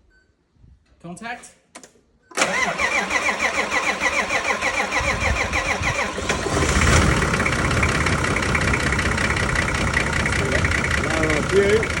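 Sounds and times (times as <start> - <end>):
diesel engine cranking and starting: 2.4 - 12.0.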